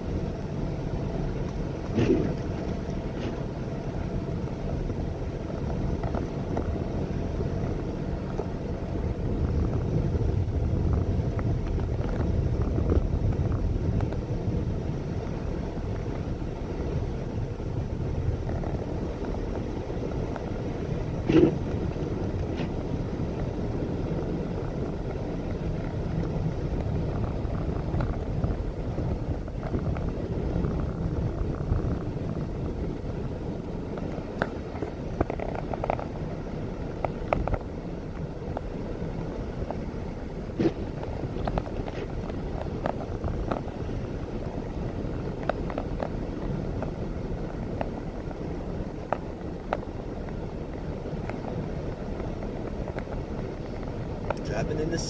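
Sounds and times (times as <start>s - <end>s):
car driving interior rumble: 0.0s - 55.0s.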